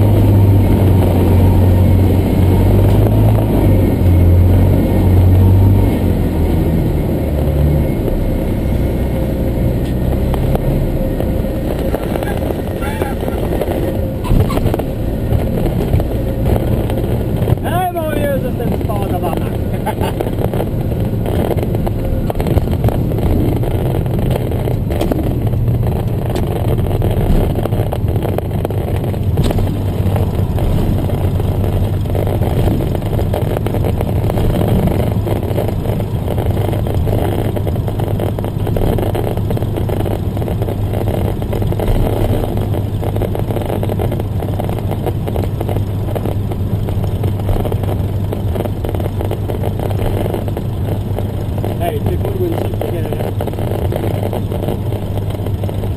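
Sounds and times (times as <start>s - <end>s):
propeller engine running: 0.0s - 55.9s.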